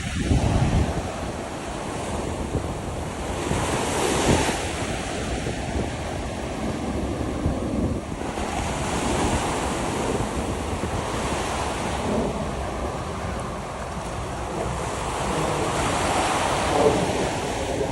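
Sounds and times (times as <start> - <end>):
ocean surf breaking: 0.0 - 17.9
wind buffeting microphone: 0.0 - 17.9.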